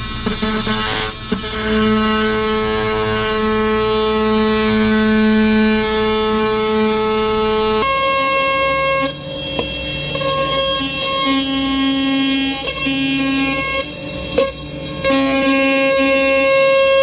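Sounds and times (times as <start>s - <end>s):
oscillating multi-tool cutting: 0.0s - 17.0s.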